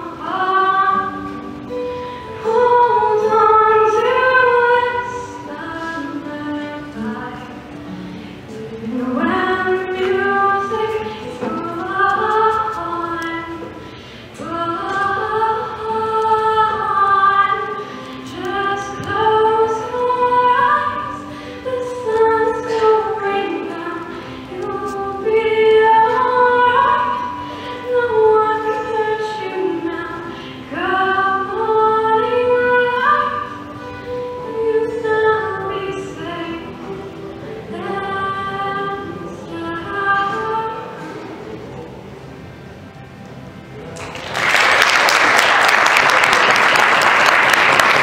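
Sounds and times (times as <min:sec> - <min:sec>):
woman singing: 0:00.0 - 0:41.2
acoustic guitar: 0:00.0 - 0:44.0.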